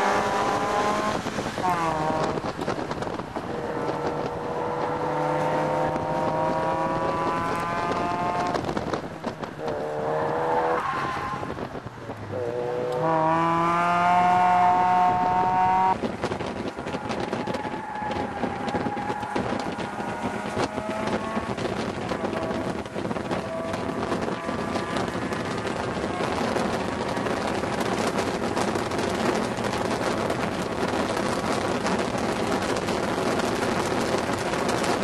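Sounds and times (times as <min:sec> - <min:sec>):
car engine accelerating: 0:00.0 - 0:35.0
wind rush: 0:00.0 - 0:35.0.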